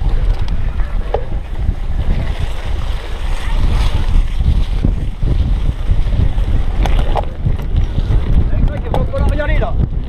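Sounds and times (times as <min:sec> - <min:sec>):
wind noise and rumble: 0:00.0 - 0:10.0.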